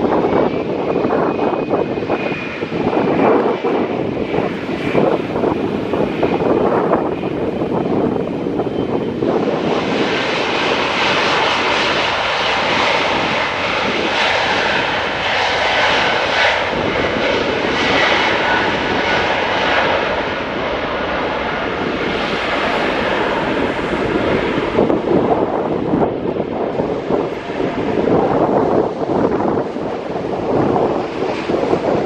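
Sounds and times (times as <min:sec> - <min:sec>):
jet engines at taxi power: 0:00.0 - 0:32.0.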